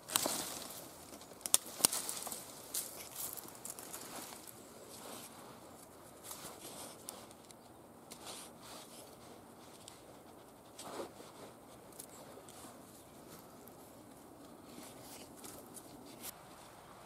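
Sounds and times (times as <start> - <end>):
bramble canes scratching and rustling: 0.0 - 16.8.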